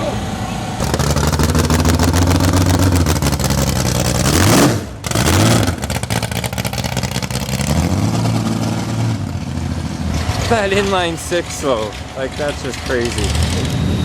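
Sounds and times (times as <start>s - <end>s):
race car engine idling and revving: 0.0s - 14.0s.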